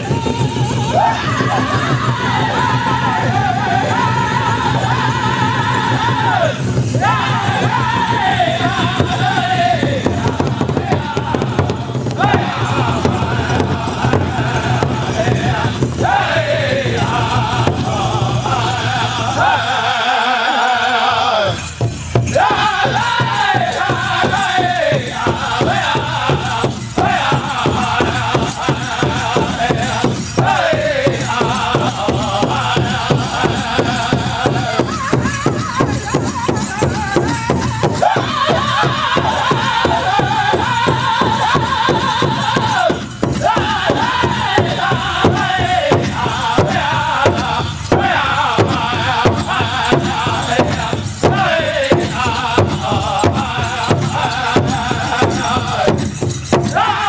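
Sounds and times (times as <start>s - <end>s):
fast drum beat: 0.0s - 19.8s, 21.6s - 57.0s
group singing: 0.0s - 57.0s
jingling bells: 0.0s - 57.0s.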